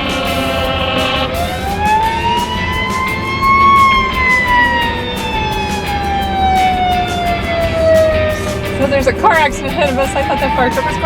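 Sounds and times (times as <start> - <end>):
fire truck siren wailing: 0.0 - 11.0
low road noise: 0.0 - 11.0.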